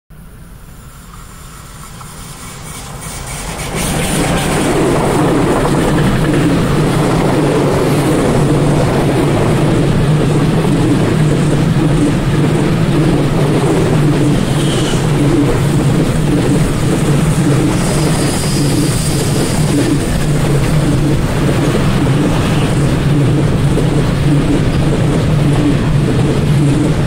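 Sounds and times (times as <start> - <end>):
freight train rumbling past: 0.1 - 27.0.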